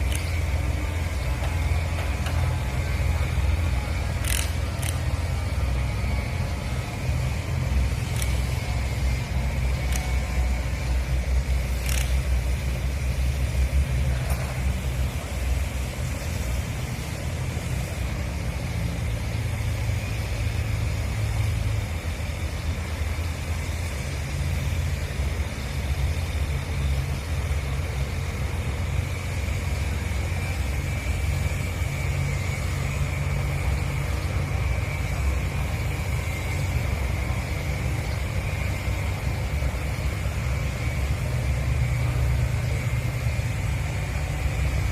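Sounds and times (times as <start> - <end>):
faint high whine: 0.0 - 44.9
low engine drone: 0.0 - 44.9.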